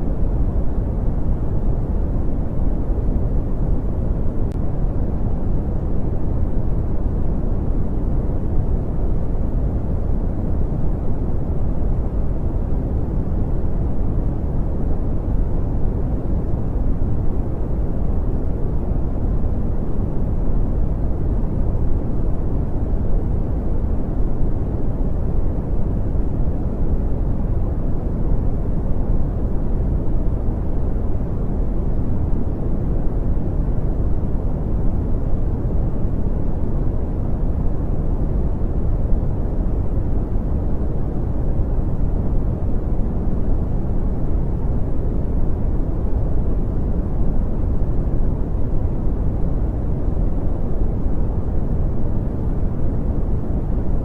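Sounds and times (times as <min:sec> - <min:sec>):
brown noise rumbling hiss: 0:00.0 - 0:54.0.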